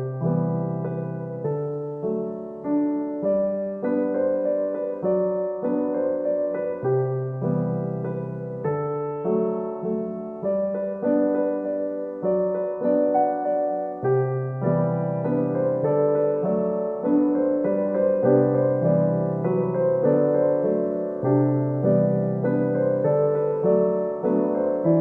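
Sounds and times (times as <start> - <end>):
gentle piano piece: 0.0 - 25.0.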